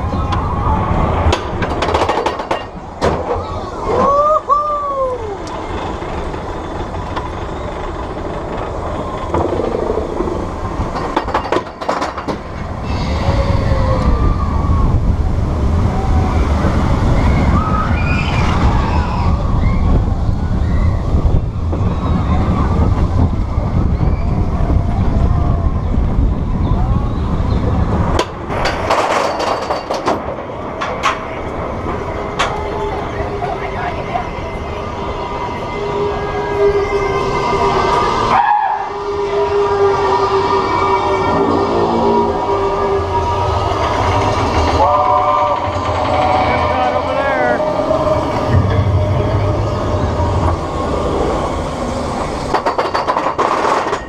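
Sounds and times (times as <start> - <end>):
roller coaster wheels rumbling: 0.0 - 54.0.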